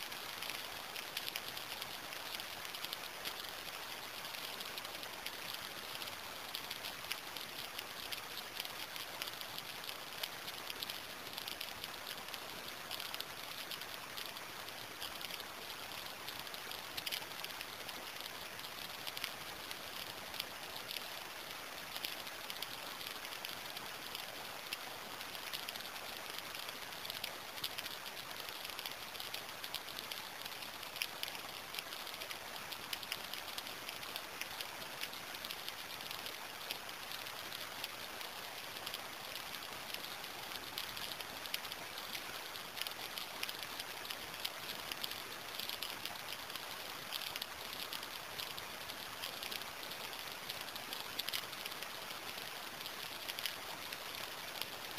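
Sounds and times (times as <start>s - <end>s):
rain drops ticking on surface: 0.0s - 54.9s.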